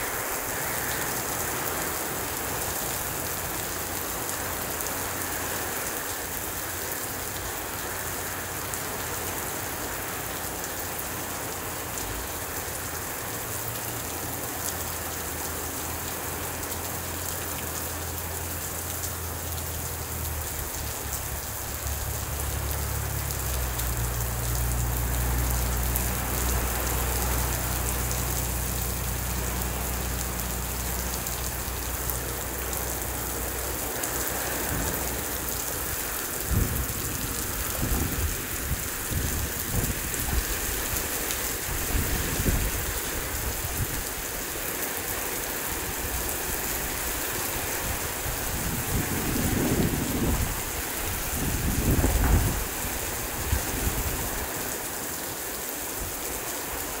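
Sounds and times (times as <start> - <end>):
heavy rain on pavement and trees: 0.0 - 57.0.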